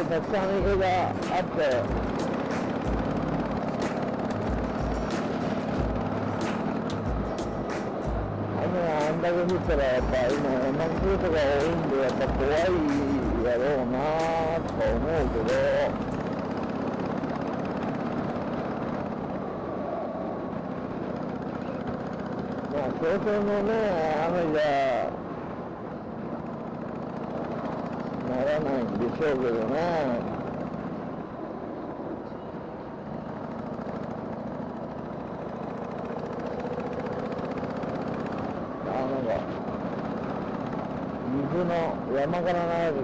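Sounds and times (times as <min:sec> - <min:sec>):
motorcycle engine running: 0:00.0 - 0:19.5, 0:20.4 - 0:31.3, 0:32.8 - 0:42.0
wind and road noise: 0:00.0 - 0:43.0.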